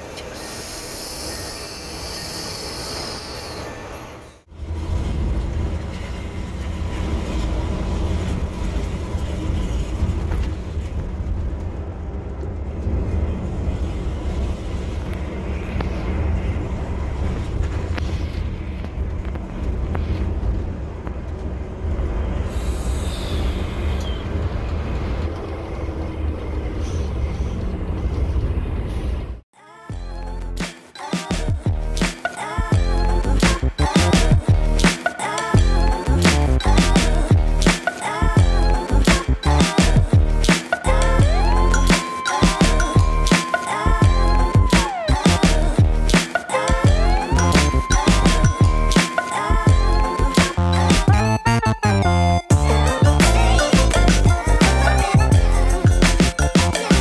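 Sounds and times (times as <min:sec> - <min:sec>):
bus engine and road rumble: 0:04.0 - 0:29.5, 0:35.6 - 0:57.0.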